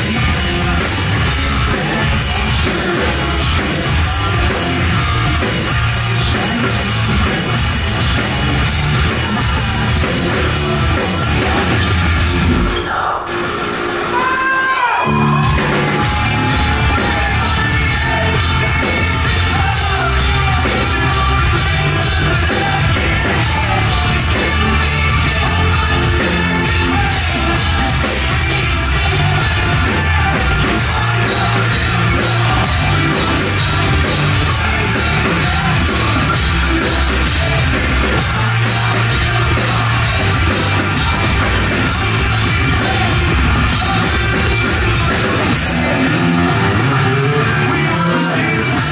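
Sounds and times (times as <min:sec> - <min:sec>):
lead vocal singing: 0:00.0 - 0:48.9
rock band playing live: 0:00.0 - 0:48.9.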